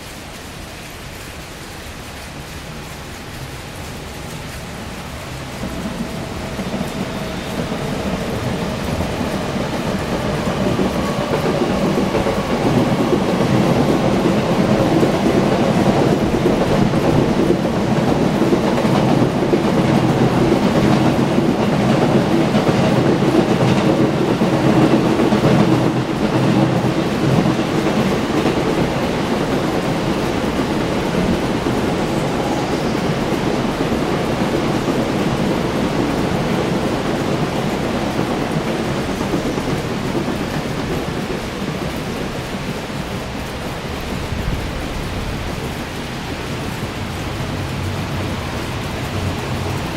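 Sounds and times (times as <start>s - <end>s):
heavy rain hiss: 0.0s - 49.9s
train passing on rails: 0.0s - 49.9s.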